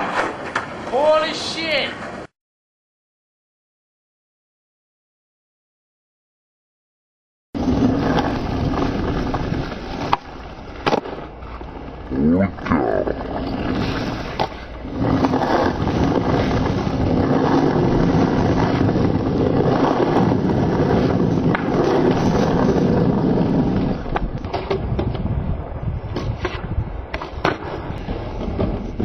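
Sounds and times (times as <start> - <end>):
skateboard wheels rolling on asphalt: 0.0 - 2.3, 7.6 - 29.0.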